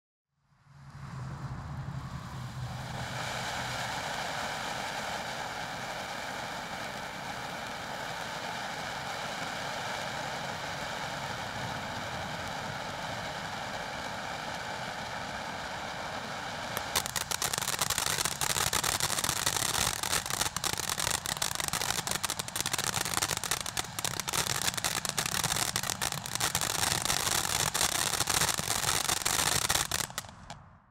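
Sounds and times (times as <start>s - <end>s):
fountain firework hissing and crackling: 1.4s - 30.6s.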